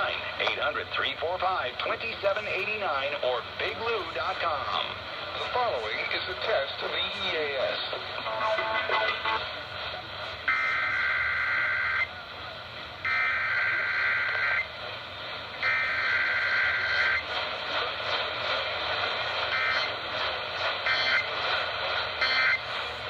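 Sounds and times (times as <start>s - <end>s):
radio static: 0.0s - 12.0s, 15.6s - 23.0s.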